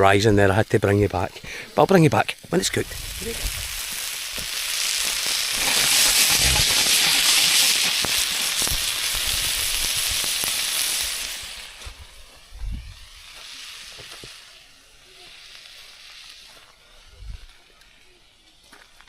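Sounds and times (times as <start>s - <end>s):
steak sizzling in a pan: 0.0s - 17.6s.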